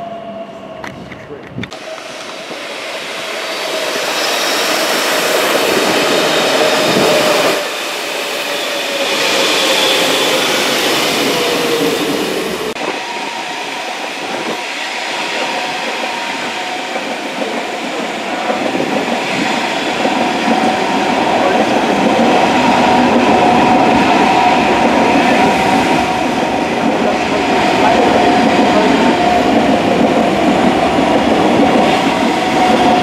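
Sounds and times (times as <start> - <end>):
diesel train passing: 0.0 - 33.0
high-speed train rushing past: 0.0 - 33.0.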